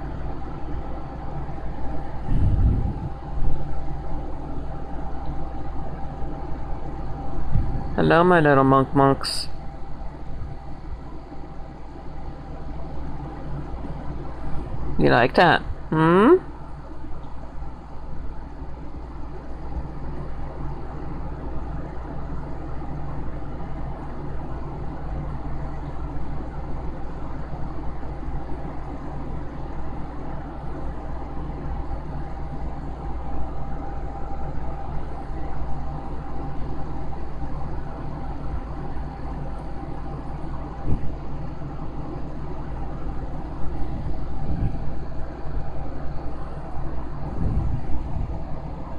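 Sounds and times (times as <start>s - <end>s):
faint steady whine: 0.0s - 48.9s
low mechanical hum: 0.0s - 48.9s.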